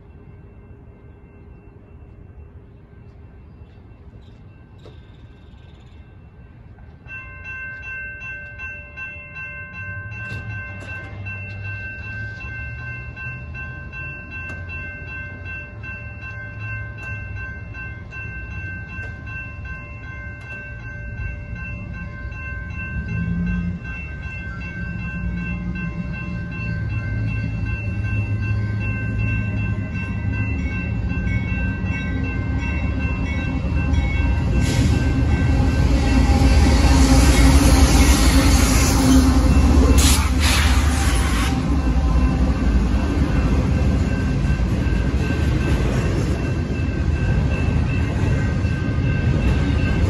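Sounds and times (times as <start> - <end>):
crossing warning bell ringing: 0.0 - 50.0
freight train rumble: 0.0 - 50.0.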